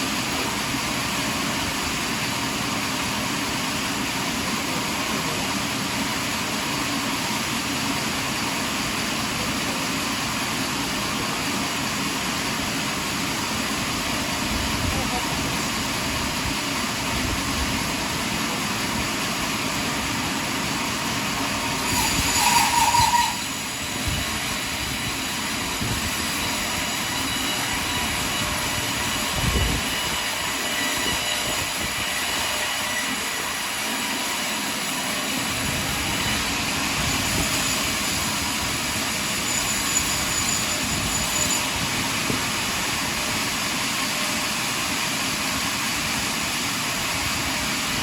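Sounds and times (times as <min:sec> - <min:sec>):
sawmill cutting log: 0:00.0 - 0:48.0.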